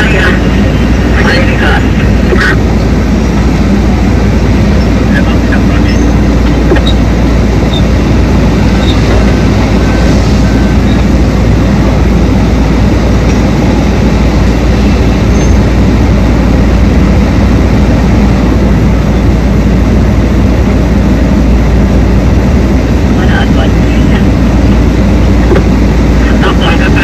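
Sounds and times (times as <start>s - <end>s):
diesel engine rumbling: 0.0s - 27.0s.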